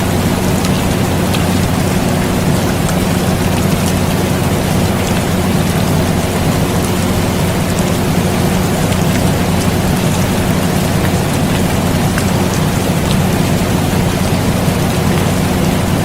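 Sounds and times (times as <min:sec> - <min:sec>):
air conditioner hum: 0:00.0 - 0:16.0
rain drop ticks: 0:00.0 - 0:16.0
steady rain: 0:00.0 - 0:16.0.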